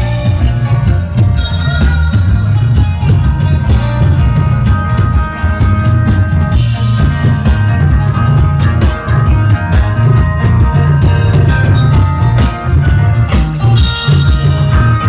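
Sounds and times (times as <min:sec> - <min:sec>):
heavy bass line: 0:00.0 - 0:15.0
rock band playing live: 0:00.0 - 0:15.0.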